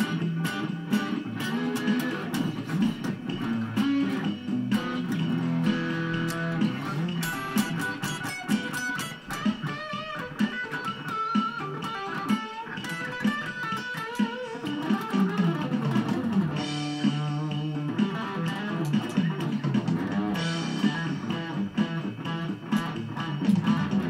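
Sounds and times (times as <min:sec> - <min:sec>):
plucked guitar with bent notes: 0:00.0 - 0:24.0.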